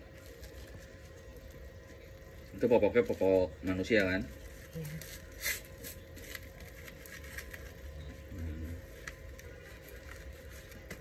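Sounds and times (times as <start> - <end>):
diaper sheet rustling and crinkling: 0.0 - 8.0, 8.6 - 11.0.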